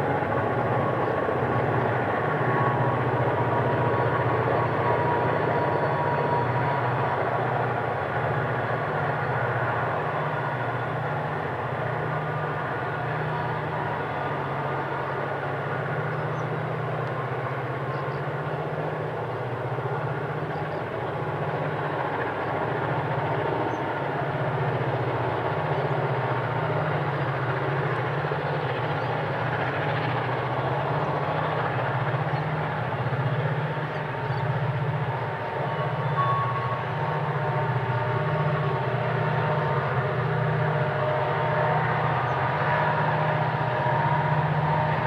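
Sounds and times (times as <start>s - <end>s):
diesel locomotive engine throb: 0.0s - 45.0s.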